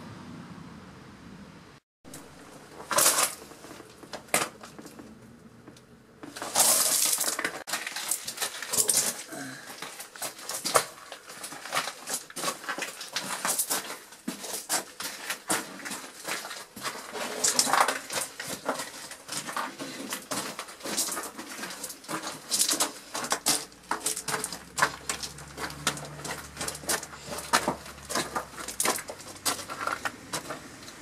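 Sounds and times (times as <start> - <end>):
footsteps crunching on gravel: 2.2 - 5.2, 6.2 - 31.0.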